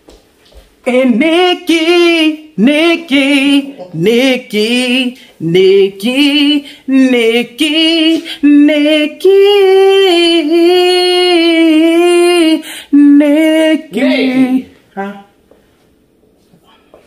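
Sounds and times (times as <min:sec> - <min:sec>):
woman singing unaccompanied: 0:00.8 - 0:15.3.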